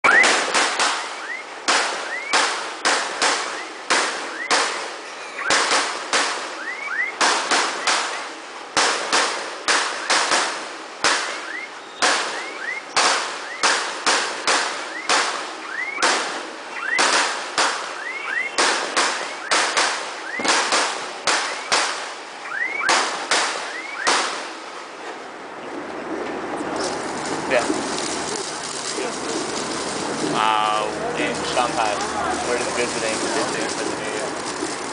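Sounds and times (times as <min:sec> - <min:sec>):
rising firework whistles: 0:00.0 - 0:24.3, 0:26.8 - 0:34.9
fireworks bangs echoing: 0:00.0 - 0:25.2, 0:26.0 - 0:34.9.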